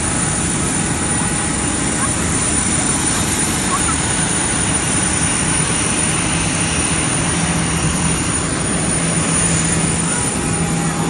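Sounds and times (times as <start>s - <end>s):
jet aircraft roar: 0.0s - 11.0s.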